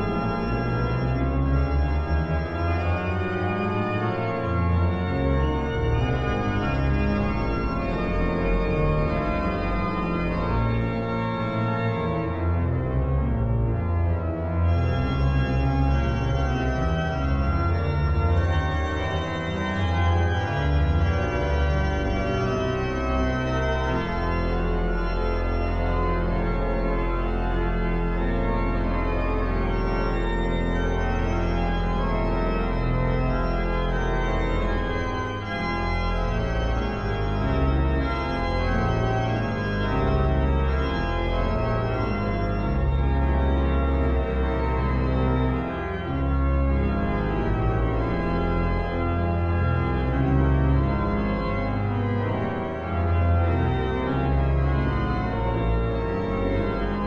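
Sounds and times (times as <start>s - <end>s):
pipe organ playing: 0.0s - 57.0s.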